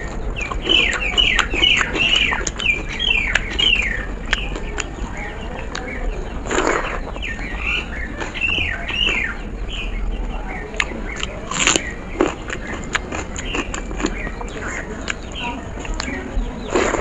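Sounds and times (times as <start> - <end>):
chewing and lip smacks: 0.0 - 9.5, 10.6 - 17.0
fingers squelching wet food: 0.0 - 17.0
small birds chirping: 0.0 - 17.0.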